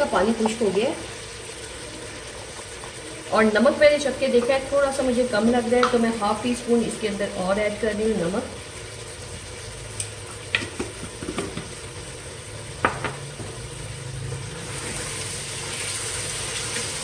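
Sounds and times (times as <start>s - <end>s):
masala sizzling in oil: 0.0s - 17.0s.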